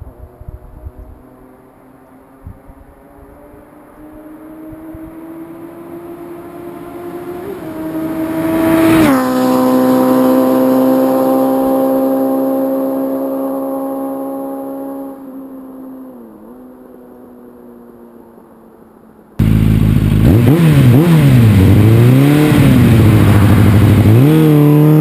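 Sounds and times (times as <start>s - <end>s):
motorcycle passing by: 0.0s - 18.4s, 19.4s - 25.0s.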